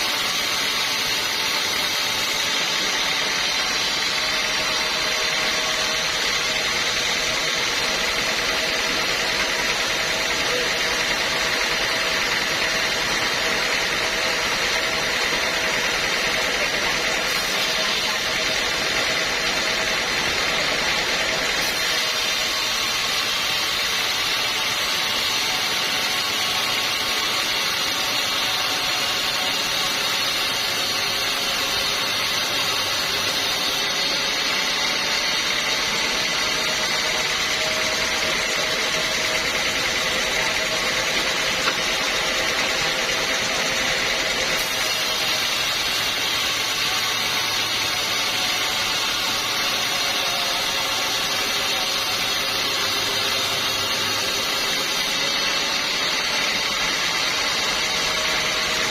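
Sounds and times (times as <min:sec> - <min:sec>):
sawmill sawing a log: 0:00.0 - 0:58.9.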